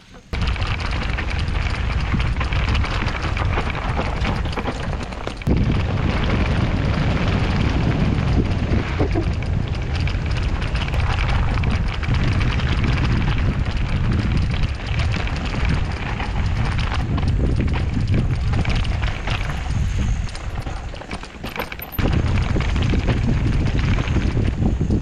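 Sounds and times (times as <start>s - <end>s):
wind on microphone: 0.0s - 25.0s
bike rattling and clicking: 0.1s - 25.0s
tyres running over dirt and stones: 0.2s - 25.0s.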